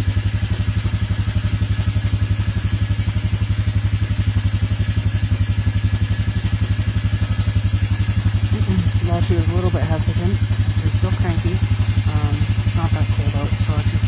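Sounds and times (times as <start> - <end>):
cold engine idling: 0.0 - 14.0.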